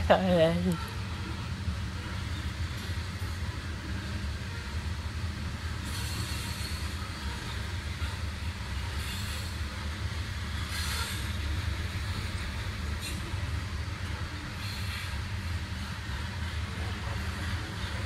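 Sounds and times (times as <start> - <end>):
train rumbling on rails: 0.0 - 18.0.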